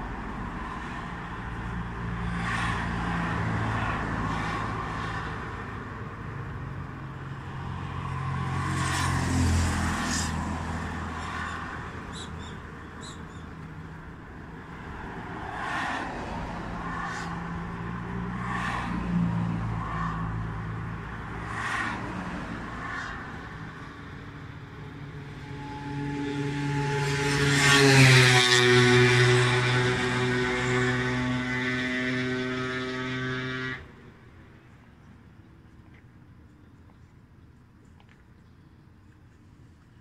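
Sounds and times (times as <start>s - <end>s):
cars passing: 0.0s - 38.3s.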